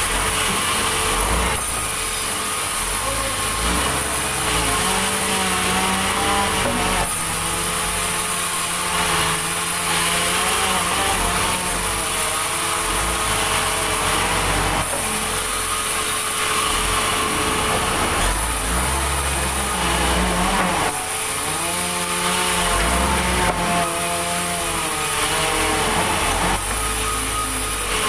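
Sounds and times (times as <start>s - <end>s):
band saw cutting log: 0.0s - 28.0s.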